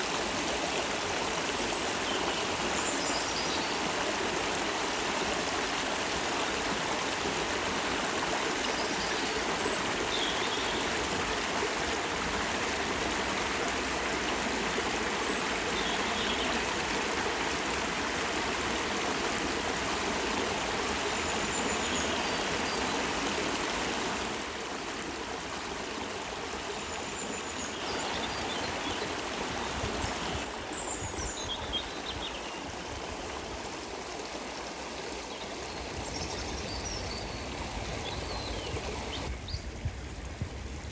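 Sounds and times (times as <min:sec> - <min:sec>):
water rushing: 0:00.0 - 0:39.3.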